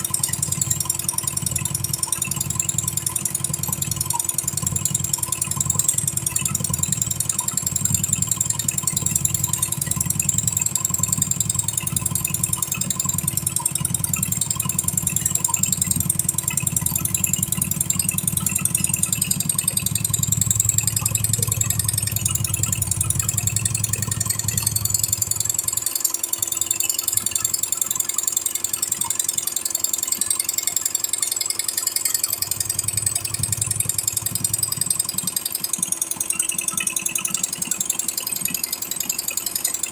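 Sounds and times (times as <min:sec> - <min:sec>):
machine running hum: 0:00.0 - 0:26.3, 0:31.9 - 0:39.9
embroidery machine needle clatter: 0:00.0 - 0:39.9.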